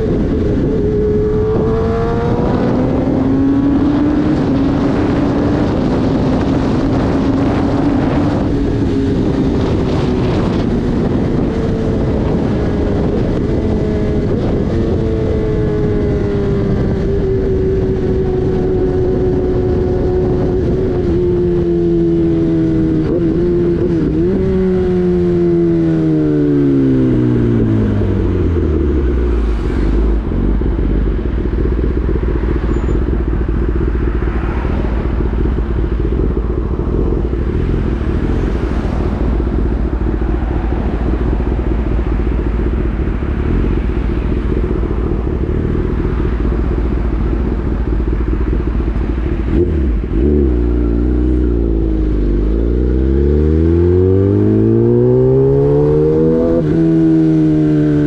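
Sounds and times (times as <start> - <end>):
motorcycle engine: 0.0 - 58.0
wind noise: 0.0 - 58.0.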